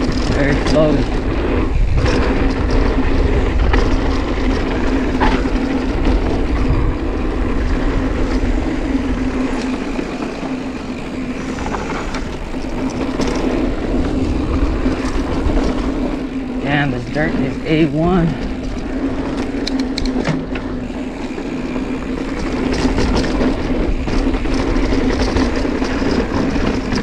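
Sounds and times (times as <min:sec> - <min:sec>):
bike clicks and rattles: 0:00.0 - 0:27.0
tyres running over dirt: 0:00.0 - 0:27.0
wind buffeting microphone: 0:00.0 - 0:27.0.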